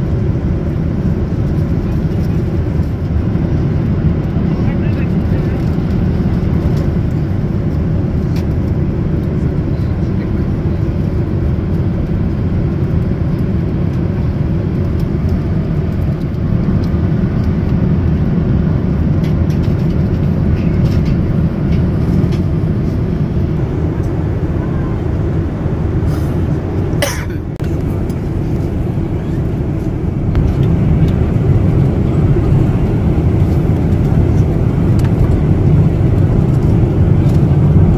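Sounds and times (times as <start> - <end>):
vehicle rumbling: 0.0 - 37.9.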